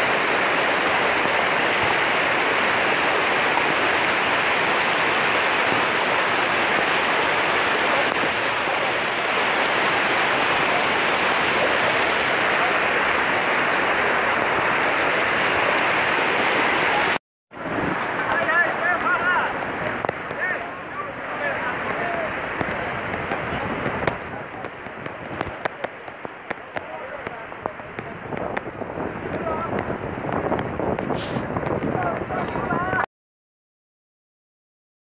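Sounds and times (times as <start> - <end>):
floodwater rushing: 0.0 - 33.1.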